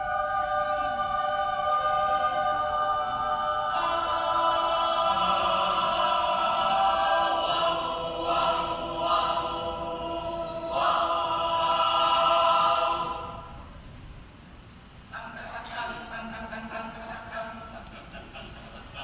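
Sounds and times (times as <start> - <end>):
choir singing a cappella: 0.0 - 13.7, 15.1 - 19.0.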